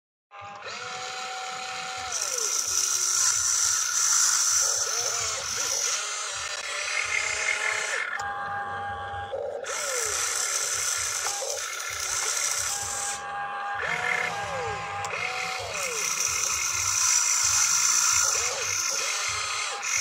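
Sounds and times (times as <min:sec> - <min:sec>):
electric motors whining: 0:00.3 - 0:20.0.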